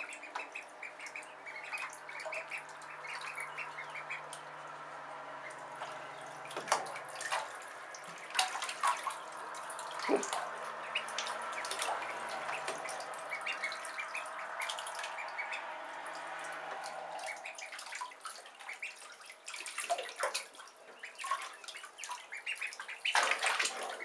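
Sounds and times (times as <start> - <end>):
ducklings splashing in water: 0.0 - 24.0
rushing water: 0.0 - 24.0.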